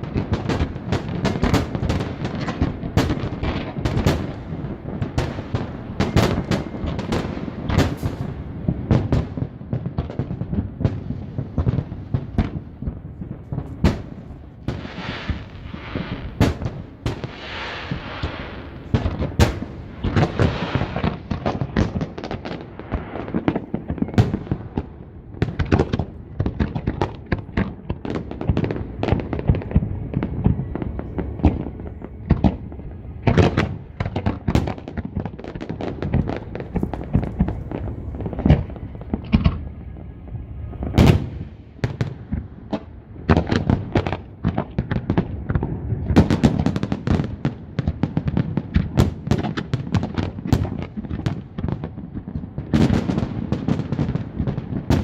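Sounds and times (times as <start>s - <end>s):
fireworks bursts and booms: 0.0s - 55.0s
fireworks crackling and hiss: 0.0s - 55.0s.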